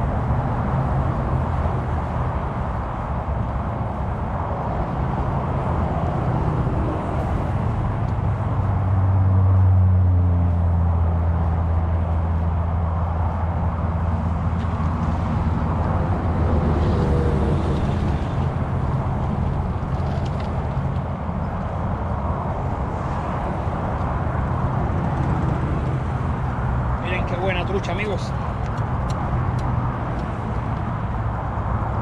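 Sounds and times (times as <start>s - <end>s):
low engine drone: 0.0s - 32.0s
steady rushing noise: 0.0s - 32.0s.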